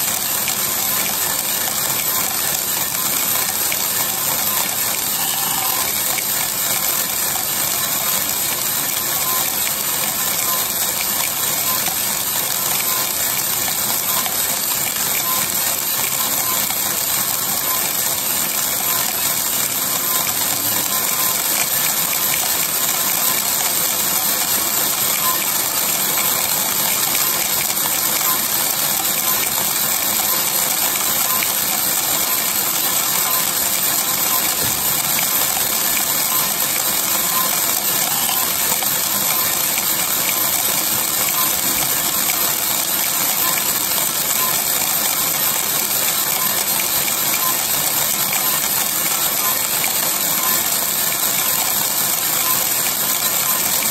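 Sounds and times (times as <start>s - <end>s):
coffee beans rattling in drum: 0.0s - 53.9s.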